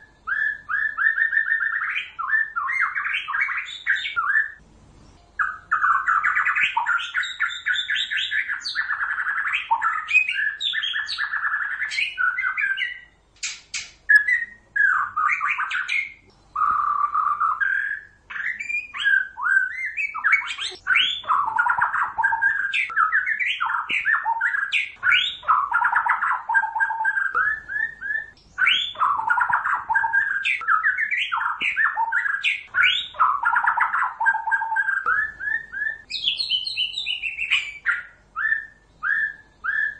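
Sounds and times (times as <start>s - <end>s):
bird singing whistled phrases: 0.0s - 4.6s, 5.2s - 13.2s, 14.1s - 39.9s.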